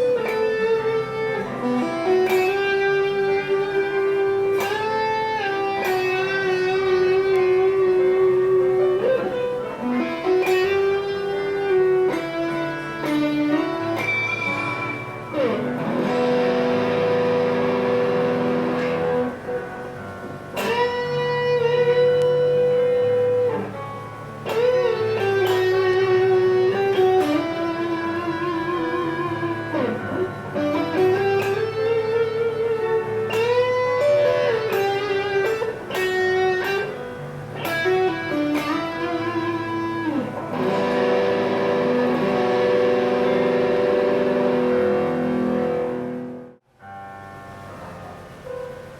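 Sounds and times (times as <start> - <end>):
lower accompanying guitar notes: 0.0 - 46.6
electric guitar lead line: 0.0 - 48.9.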